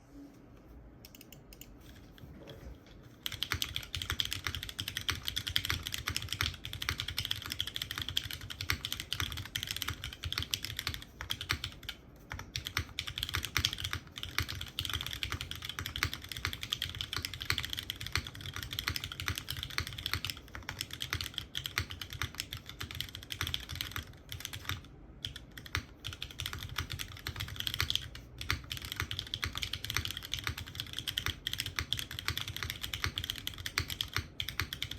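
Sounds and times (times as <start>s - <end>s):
typing on mechanical keyboard: 1.0s - 34.9s.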